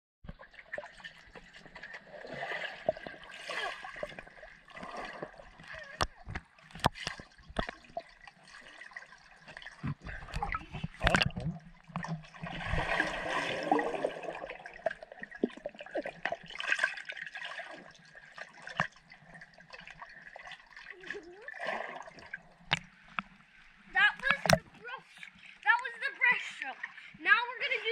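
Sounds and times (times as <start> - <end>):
underwater rushing and bubbling: 0.3 - 27.2.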